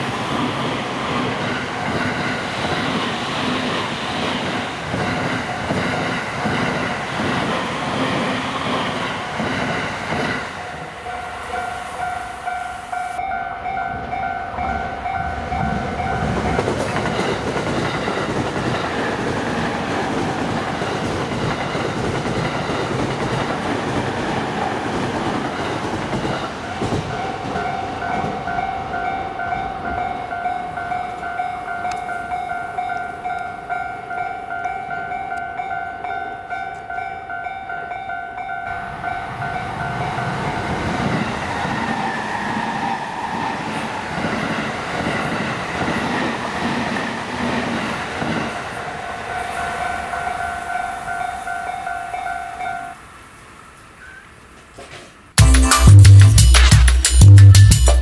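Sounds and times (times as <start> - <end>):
electric train passing: 0.0 - 58.0.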